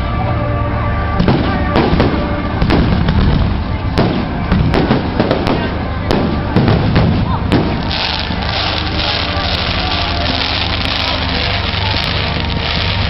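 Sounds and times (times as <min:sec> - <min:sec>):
low background noise: 0:00.0 - 0:13.0
fireworks bangs and crackles: 0:01.2 - 0:13.0.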